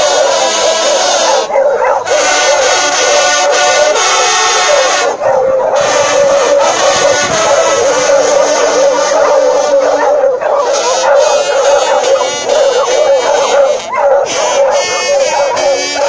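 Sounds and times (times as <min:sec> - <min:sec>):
hounds baying and howling: 0:00.0 - 0:16.0
hunting horns playing fanfare: 0:00.0 - 0:16.0.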